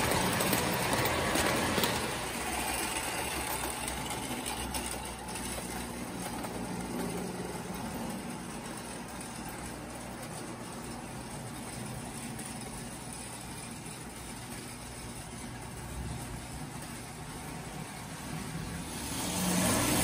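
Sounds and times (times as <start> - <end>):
toy train whirring and rumbling: 0.0 - 20.0.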